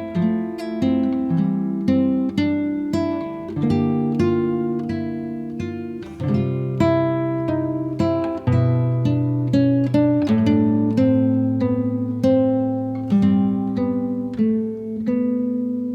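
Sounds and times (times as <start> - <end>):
acoustic guitar music: 0.0 - 15.9.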